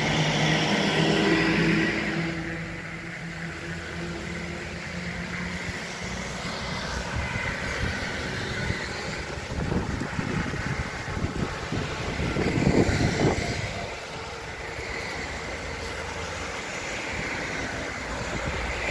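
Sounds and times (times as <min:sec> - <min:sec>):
passing vehicle engine hum: 0:00.0 - 0:18.9.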